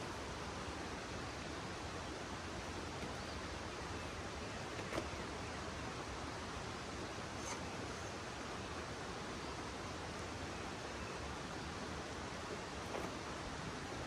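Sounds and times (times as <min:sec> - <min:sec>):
outdoor rushing hiss: 0:00.0 - 0:14.0.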